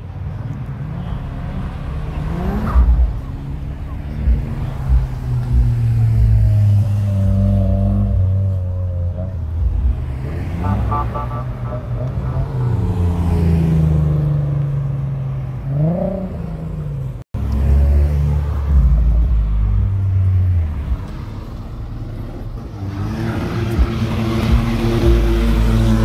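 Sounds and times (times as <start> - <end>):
car engines rumbling: 0.0 - 26.0
car engine revving: 0.8 - 26.0.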